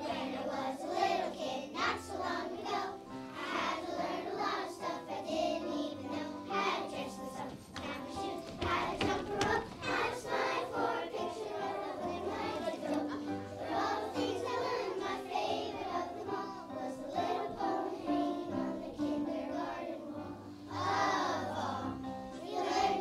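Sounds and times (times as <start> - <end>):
children singing together: 0.0 - 23.0
musical accompaniment: 0.0 - 23.0.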